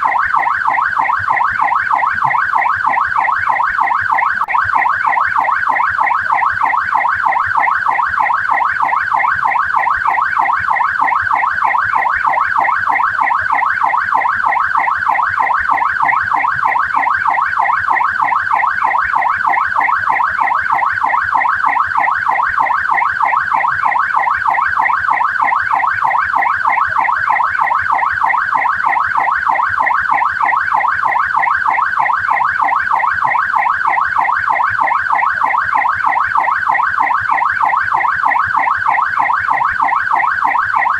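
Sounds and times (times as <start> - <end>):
police siren yelping: 0.0 - 40.9.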